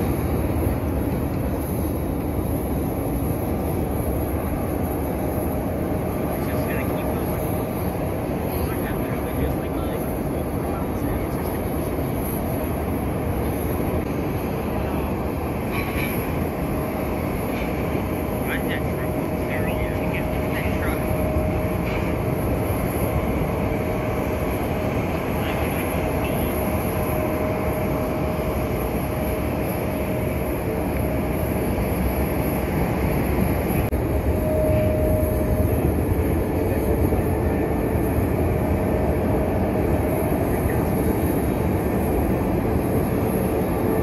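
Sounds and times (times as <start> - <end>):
jet engines rumbling: 0.0 - 44.0.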